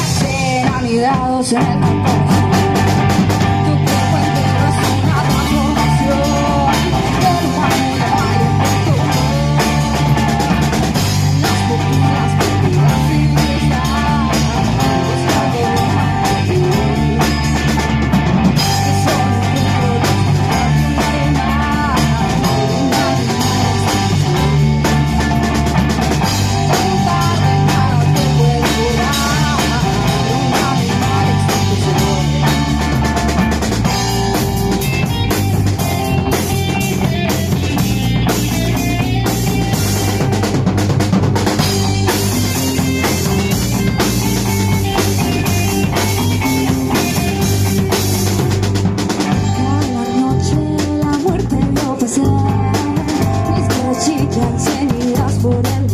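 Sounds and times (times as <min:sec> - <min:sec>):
bass line: 0:00.0 - 0:55.9
drum kit beat: 0:00.0 - 0:55.9
guitar: 0:00.0 - 0:55.9.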